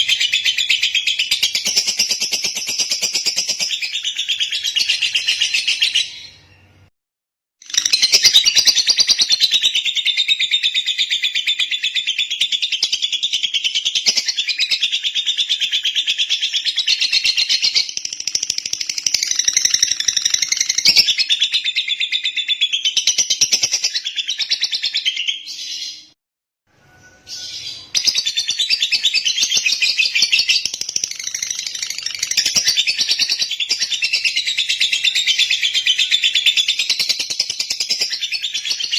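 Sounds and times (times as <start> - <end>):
lovebird rapid high chirps: 0.0 - 6.3, 7.6 - 26.0, 27.3 - 38.9.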